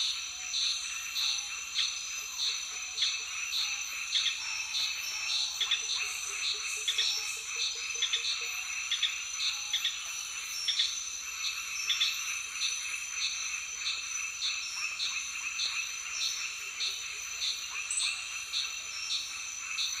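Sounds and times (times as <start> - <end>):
frogs calling: 0.0 - 20.0.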